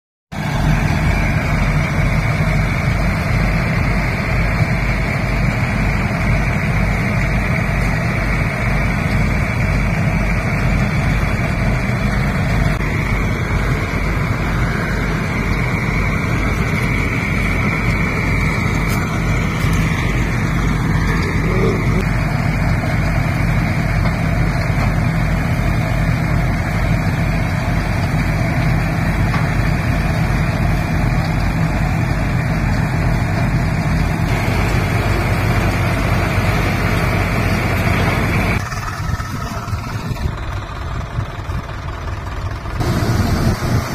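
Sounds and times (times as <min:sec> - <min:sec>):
tractor diesel engine: 0:00.3 - 0:43.9
thresher running under load: 0:00.4 - 0:43.9.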